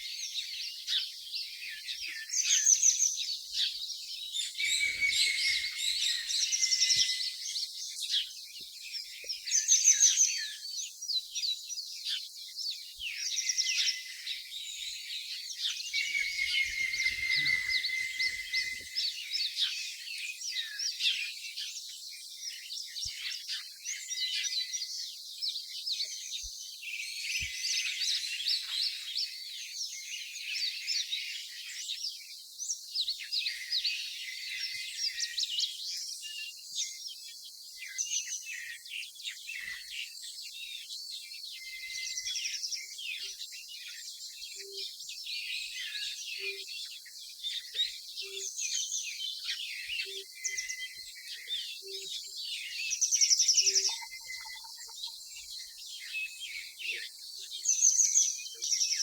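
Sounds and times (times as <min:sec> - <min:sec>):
birds chirping and twittering: 0:00.2 - 0:59.0.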